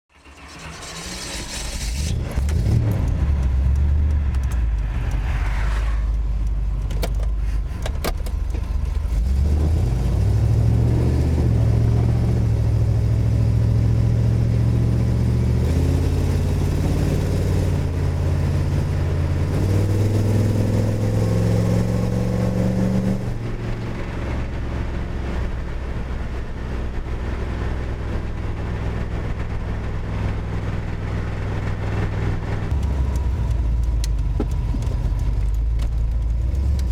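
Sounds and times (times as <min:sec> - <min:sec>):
car engine running: 0:00.2 - 0:36.9.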